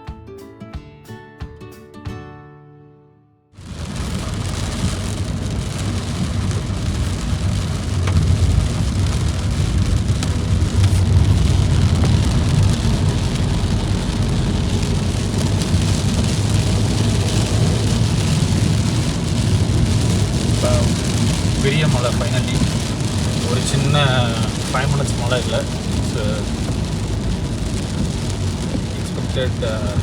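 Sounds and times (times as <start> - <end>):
rain drops ticking on a car: 3.6 - 30.0
steady low rumble: 3.6 - 30.0.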